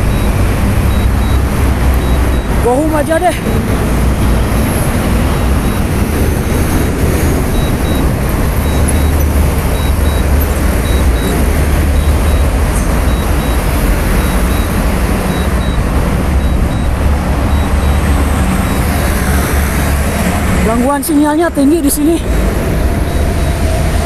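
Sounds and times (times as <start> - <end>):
highway traffic rumble: 0.0 - 24.0.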